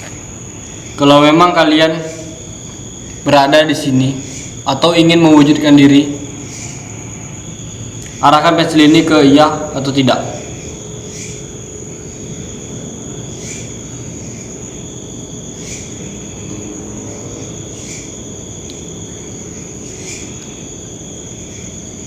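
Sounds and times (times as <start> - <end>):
insects trilling: 0.0 - 22.0
low steady hiss: 0.0 - 22.0.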